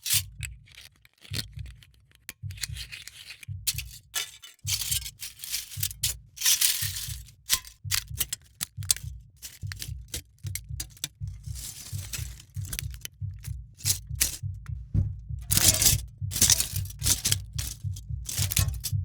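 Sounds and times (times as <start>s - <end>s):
can crunching and scraping: 0.0s - 13.1s, 13.8s - 14.4s, 15.5s - 18.9s
background music with low beat: 0.1s - 19.0s.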